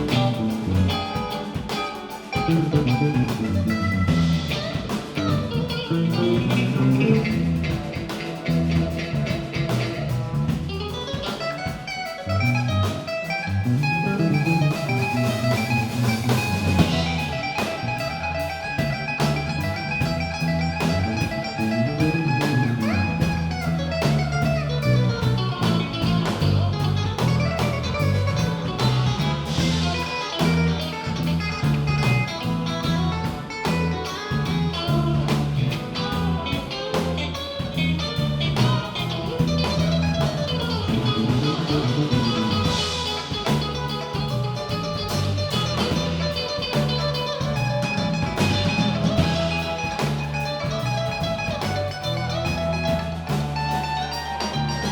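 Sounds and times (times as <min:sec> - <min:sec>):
bass guitar: 0:00.0 - 0:54.9
drum kit steady beat: 0:00.0 - 0:54.9
guitar lines: 0:00.0 - 0:54.9.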